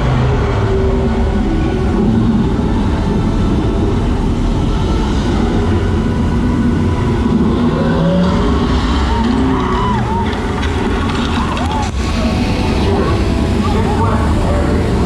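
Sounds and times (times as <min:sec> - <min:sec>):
boat rumbling along water flume: 0:00.0 - 0:15.0.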